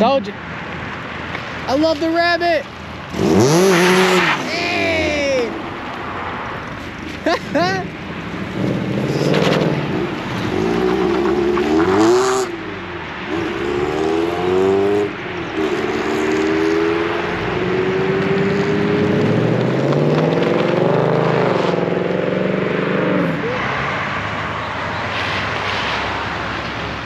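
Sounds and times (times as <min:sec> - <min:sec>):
car engine accelerating and revving: 0:03.0 - 0:27.0.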